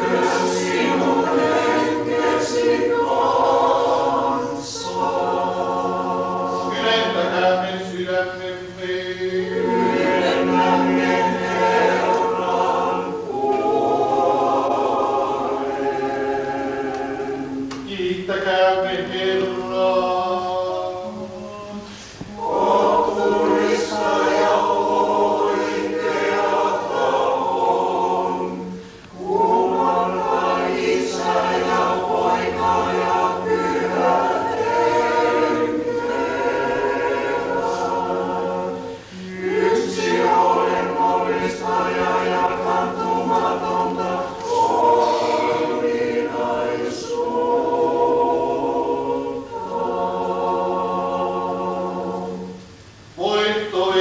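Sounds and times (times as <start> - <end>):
choir singing a cappella chant: 0.0 - 54.0.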